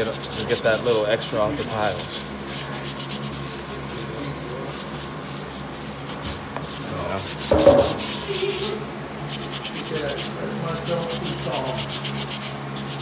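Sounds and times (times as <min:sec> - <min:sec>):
scrub brush scrubbing wet tile: 0:00.0 - 0:13.0.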